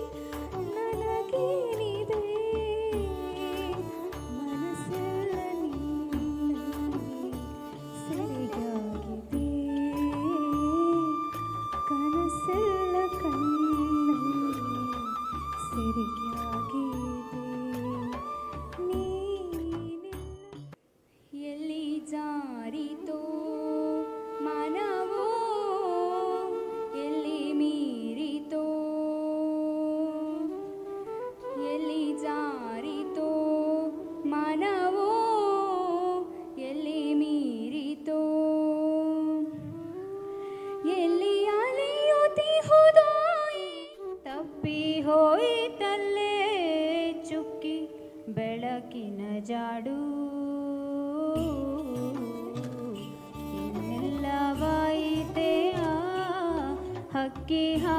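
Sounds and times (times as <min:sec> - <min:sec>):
girl singing into microphone: 0:00.0 - 0:20.7, 0:21.3 - 0:57.9.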